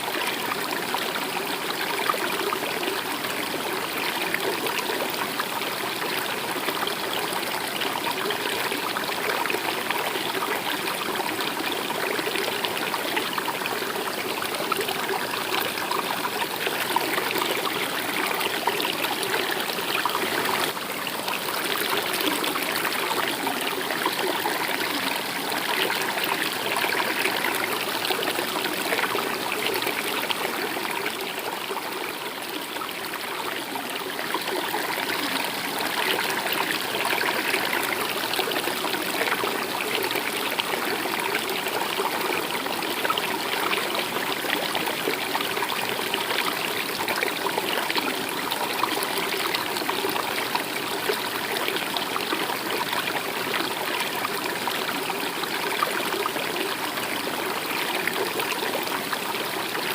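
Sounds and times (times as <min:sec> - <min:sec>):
stream water running: 0:00.0 - 0:59.9.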